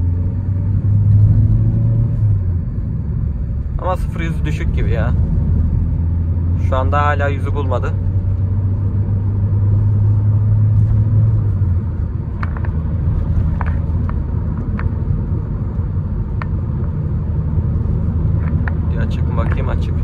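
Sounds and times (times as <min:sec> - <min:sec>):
car engine drone under load: 0:00.0 - 0:20.0
road noise rumble: 0:00.0 - 0:20.0.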